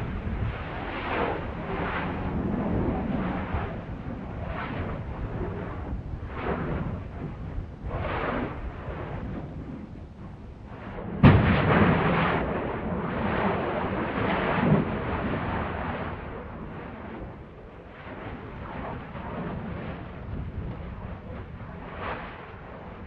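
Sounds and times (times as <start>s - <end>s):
explosive volcanic blast: 0.0s - 23.0s
volcano vents rumbling: 0.0s - 23.0s.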